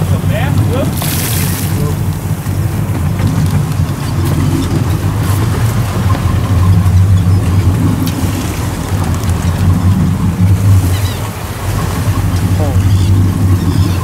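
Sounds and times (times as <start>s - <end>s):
motorboat engine idling: 0.0s - 14.0s
wind buffeting microphone: 0.0s - 14.0s.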